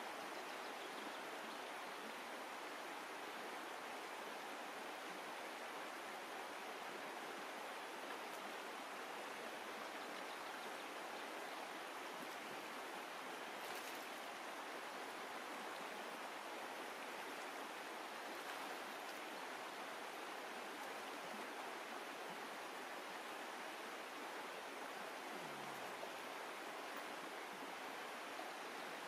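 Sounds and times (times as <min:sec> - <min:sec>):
stream rushing over stones: 0:00.0 - 0:29.0.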